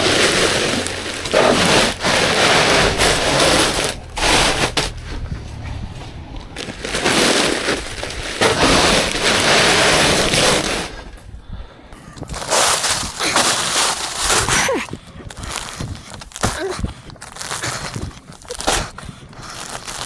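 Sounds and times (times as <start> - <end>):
plastic sacks scraping and crunching: 0.0 - 11.2, 12.0 - 20.0.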